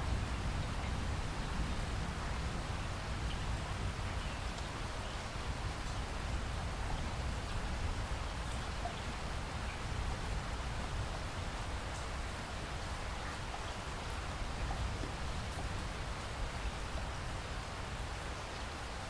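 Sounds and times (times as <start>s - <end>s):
faint raindrops: 0.0s - 19.0s
steady rain hissing: 0.0s - 19.0s.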